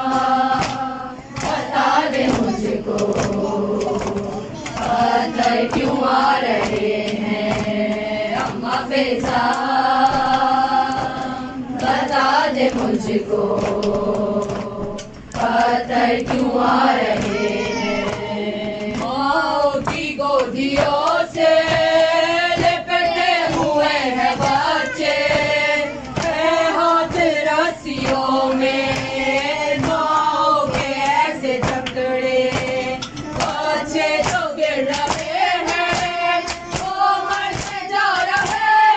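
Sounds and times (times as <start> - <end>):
women chanting a lament: 0.0 - 38.9.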